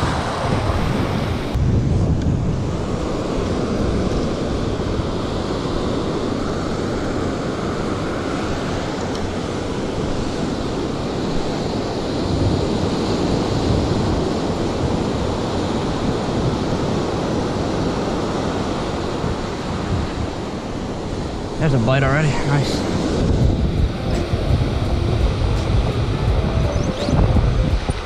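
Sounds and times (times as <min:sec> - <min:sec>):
ocean surf washing ashore: 0:00.0 - 0:28.0
wind buffeting microphone: 0:00.0 - 0:28.0.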